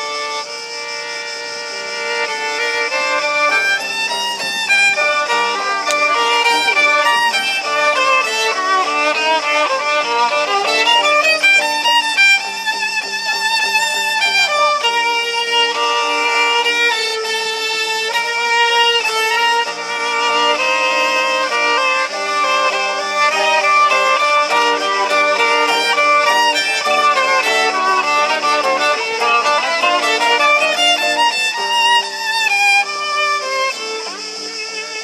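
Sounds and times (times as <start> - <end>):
violin playing bowed notes: 0.0 - 35.0.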